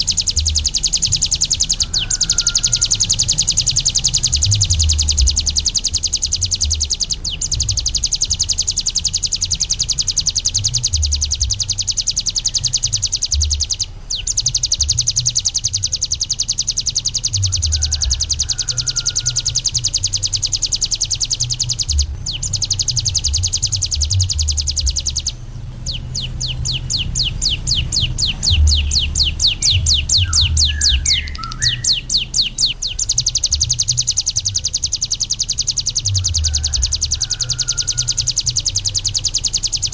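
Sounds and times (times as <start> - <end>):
low rumble: 0.0 - 16.5, 19.3 - 39.9
bird singing high trill: 0.0 - 39.9.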